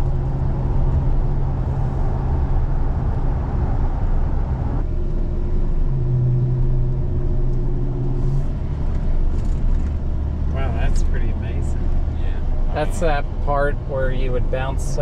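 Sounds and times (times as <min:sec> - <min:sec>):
engine and road noise in cab: 0:00.0 - 0:15.0.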